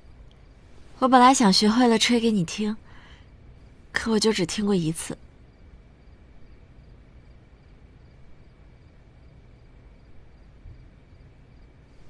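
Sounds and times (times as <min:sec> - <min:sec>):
crickets chirping: 0:00.0 - 0:12.0
low background rumble: 0:00.0 - 0:12.0.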